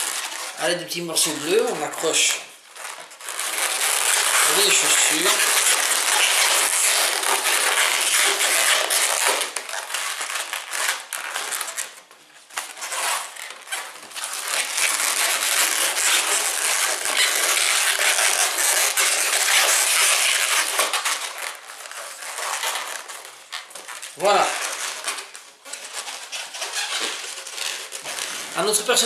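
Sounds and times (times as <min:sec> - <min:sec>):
balloons rubbing and squeaking: 0:00.0 - 0:29.0.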